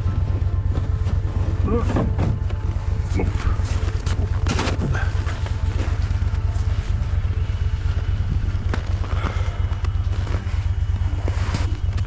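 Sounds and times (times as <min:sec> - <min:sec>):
snowmobile engine idling: 0:00.0 - 0:12.0.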